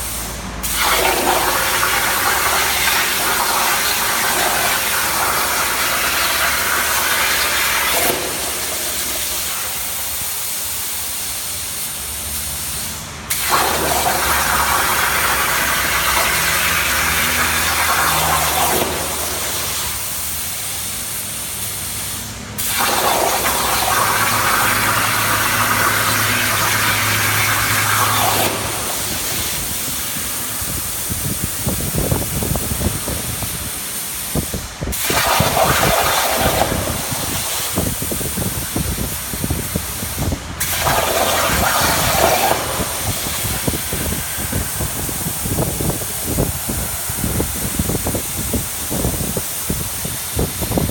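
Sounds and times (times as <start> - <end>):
plasma cutter hissing: 0.0 - 50.9.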